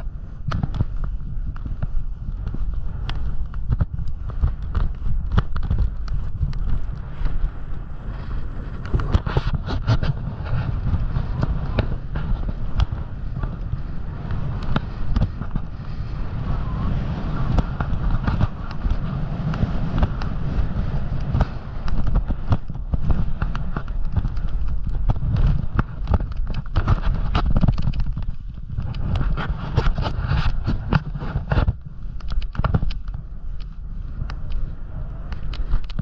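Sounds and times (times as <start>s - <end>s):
snowboard scraping over snow: 0.0s - 36.0s
wind rumbling on microphone: 0.0s - 36.0s.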